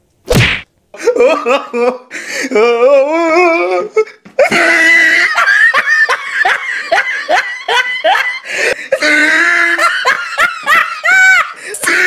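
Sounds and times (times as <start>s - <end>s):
person laughing: 1.0s - 12.0s.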